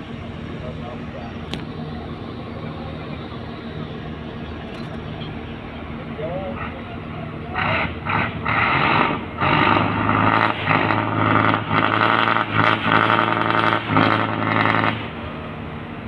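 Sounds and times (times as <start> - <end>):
boat engine surging: 0.0 - 16.0.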